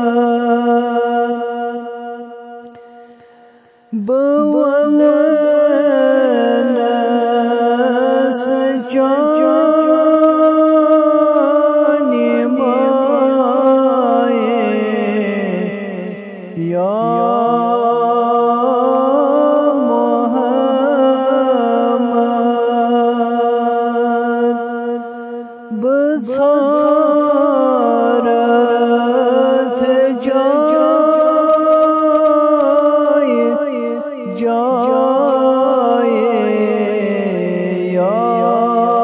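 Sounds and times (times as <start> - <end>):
person singing unaccompanied: 0.0 - 2.8, 3.9 - 25.1, 25.7 - 39.0.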